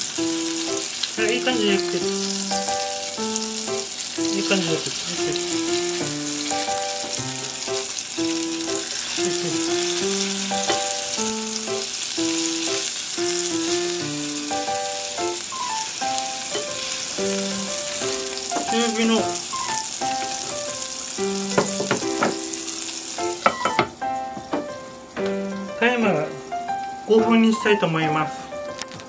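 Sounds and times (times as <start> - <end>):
patties sizzling in frying pan: 0.0 - 28.7
background music: 0.2 - 29.0.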